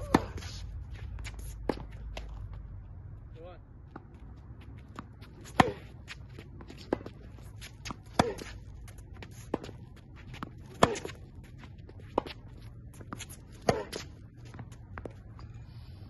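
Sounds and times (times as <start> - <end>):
rackets hitting tennis ball: 0.0 - 2.6, 4.8 - 15.4.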